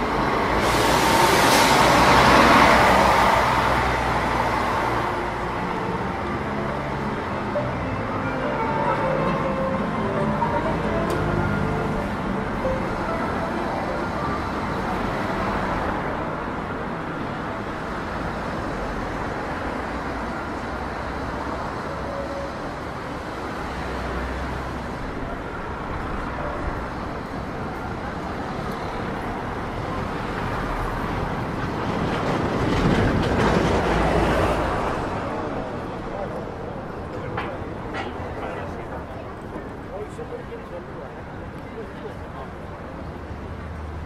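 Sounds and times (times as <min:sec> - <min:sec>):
cars driving past: 0:00.0 - 0:39.8
road noise: 0:00.0 - 0:44.0.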